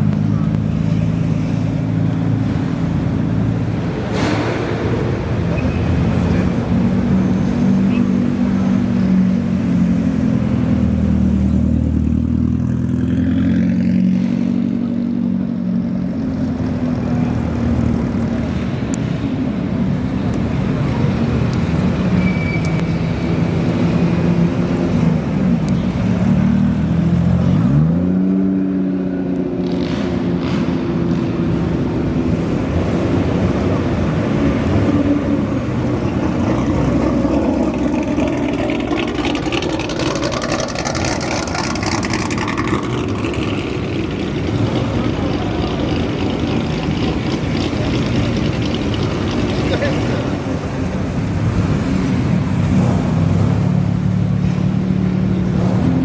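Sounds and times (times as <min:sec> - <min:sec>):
car engines running: 0:00.0 - 0:56.0.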